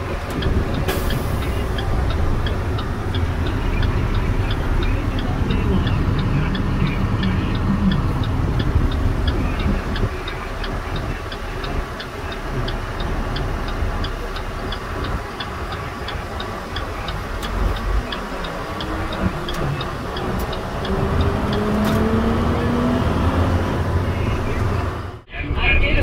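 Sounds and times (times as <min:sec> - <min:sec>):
turn signal clicking: 0:00.0 - 0:25.2
road noise: 0:00.0 - 0:26.0
truck engine drone: 0:00.0 - 0:26.0.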